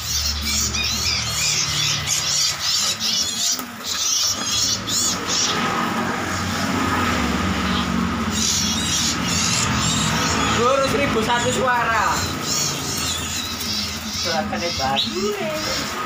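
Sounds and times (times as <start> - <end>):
caged songbirds chirping: 0.0 - 16.0.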